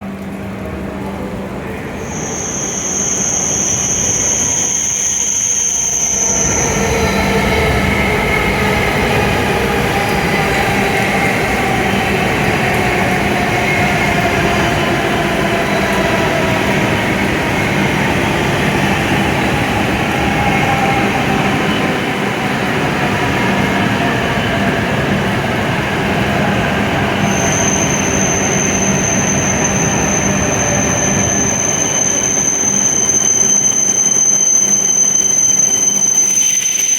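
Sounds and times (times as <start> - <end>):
train braking with motor whine: 1.8 - 36.9.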